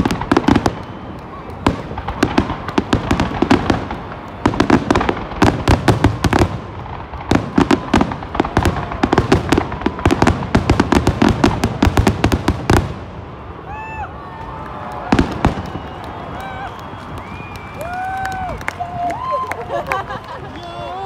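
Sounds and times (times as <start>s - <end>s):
fireworks bangs and crackles: 0.0s - 20.5s.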